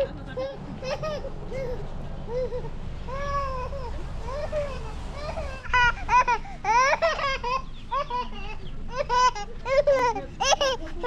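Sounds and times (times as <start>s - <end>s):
child laughing and babbling: 0.0s - 11.0s.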